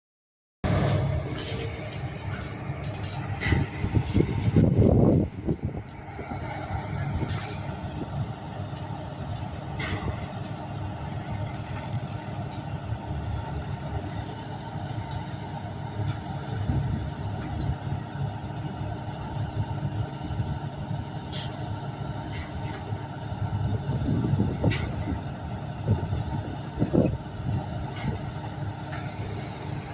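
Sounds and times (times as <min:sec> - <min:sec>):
heavy engine humming: 0:00.6 - 0:29.9.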